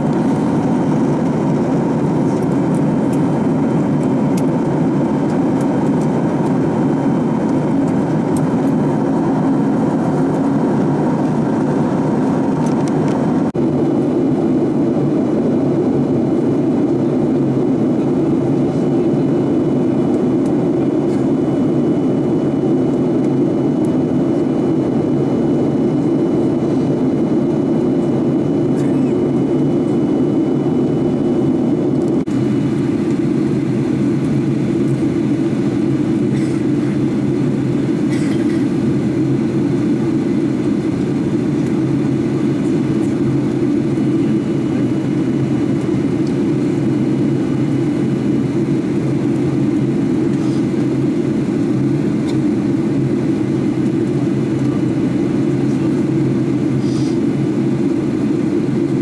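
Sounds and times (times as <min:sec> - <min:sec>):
airflow over fuselage: 0:00.0 - 0:59.0
jet engines droning: 0:00.0 - 0:59.0.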